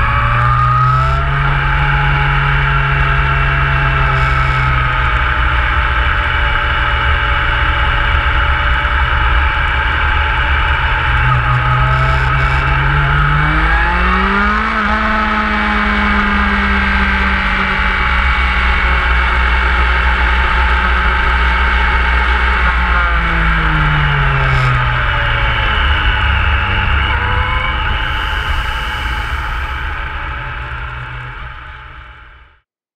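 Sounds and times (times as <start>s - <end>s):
motorcycle engine running: 0.0s - 32.6s.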